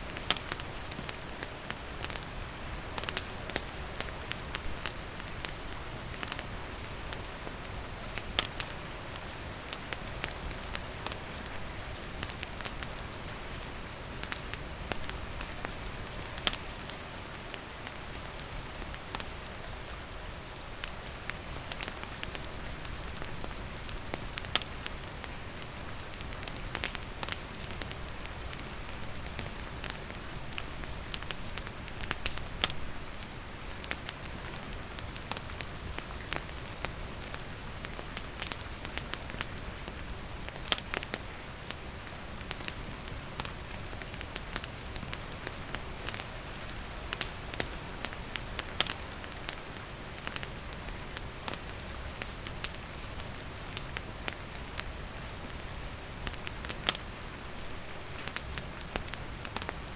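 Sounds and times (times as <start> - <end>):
campfire wood crackling: 0.0 - 59.9
rain falling on wooden shelter: 0.0 - 59.9.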